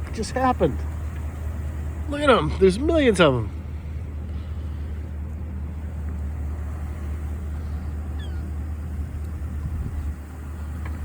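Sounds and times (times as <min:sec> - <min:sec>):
seagulls calling: 0:00.0 - 0:11.0
steady low rumble: 0:00.0 - 0:11.0.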